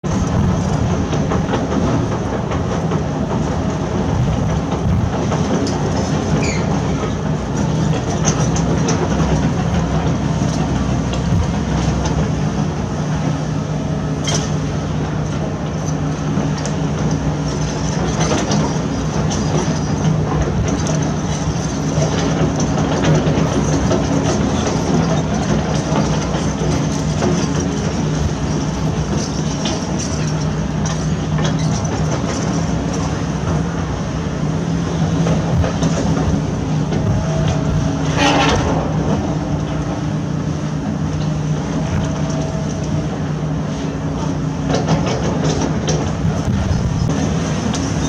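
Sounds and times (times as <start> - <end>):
diesel engine drone: 0.0 - 48.0.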